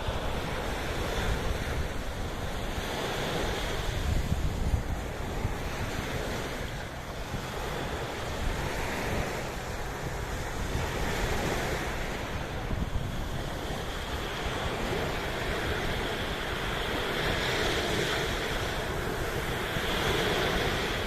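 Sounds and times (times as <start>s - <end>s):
sea waves washing in: 0.0s - 21.0s
wind buffeting microphone: 0.0s - 21.0s.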